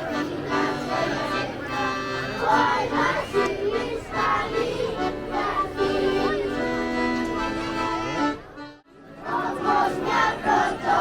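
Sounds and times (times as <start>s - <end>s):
crowd voices: 0.0s - 11.0s.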